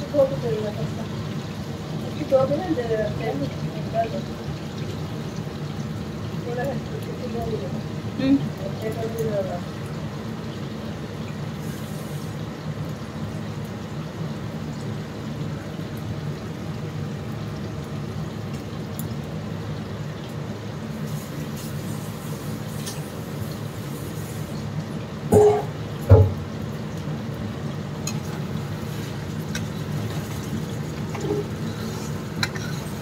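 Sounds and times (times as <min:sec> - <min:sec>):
frying sizzle and bubble: 0:00.0 - 0:33.0.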